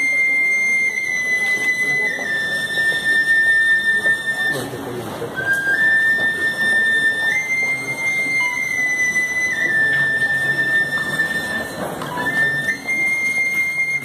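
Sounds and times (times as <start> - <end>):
crowd murmur: 0.0 - 14.0
high whistling tone: 0.0 - 14.0.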